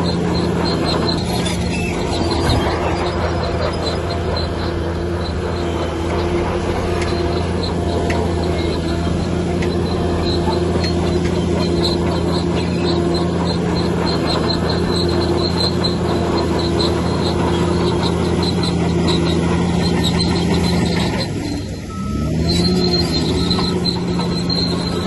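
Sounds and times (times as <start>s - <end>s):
heavy diesel engine running: 0.0s - 25.0s
short high squeaks: 0.0s - 25.0s.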